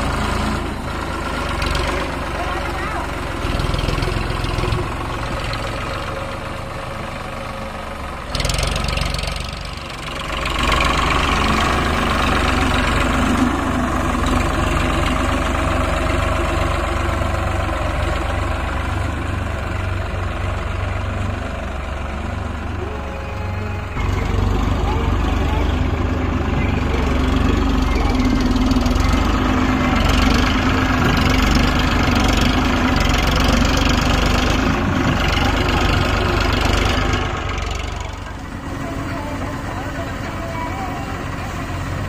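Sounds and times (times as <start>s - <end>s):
tractor diesel engine throbbing: 0.0s - 42.0s.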